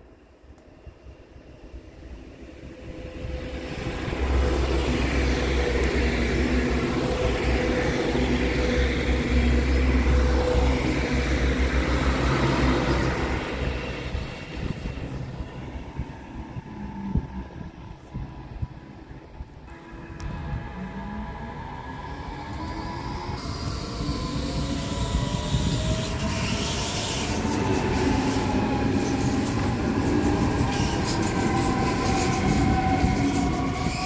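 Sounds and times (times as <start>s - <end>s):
train passing with rolling noise: 0.0s - 34.0s.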